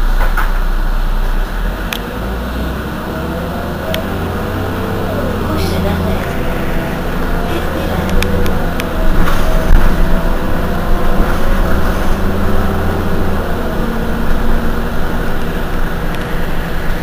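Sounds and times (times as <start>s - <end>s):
diesel bus engine idling: 0.0s - 17.0s.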